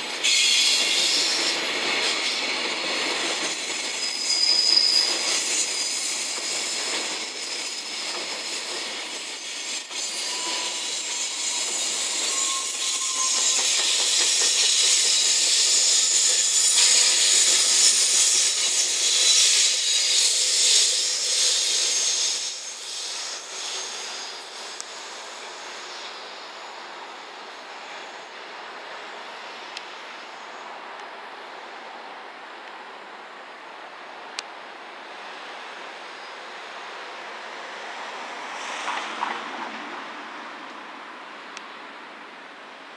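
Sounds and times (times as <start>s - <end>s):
freight train wheels rumbling on rails: 0.0s - 31.0s, 35.0s - 42.8s.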